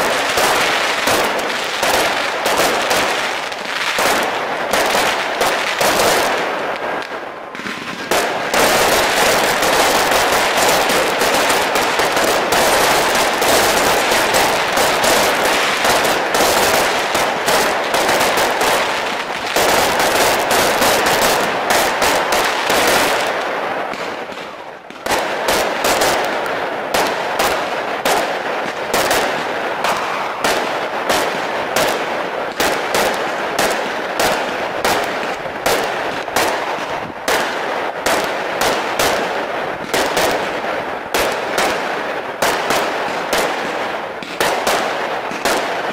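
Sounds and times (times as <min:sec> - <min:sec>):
fireworks bangs and crackle: 0:00.0 - 0:45.9.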